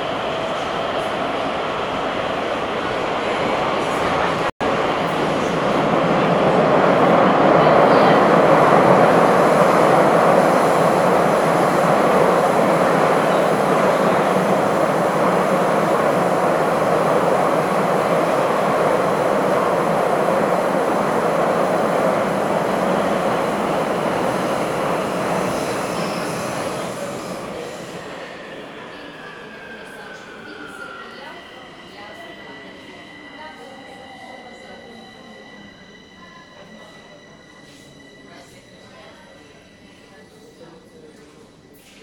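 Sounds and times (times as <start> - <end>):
train rumbling in tunnel: 0.0 - 42.0.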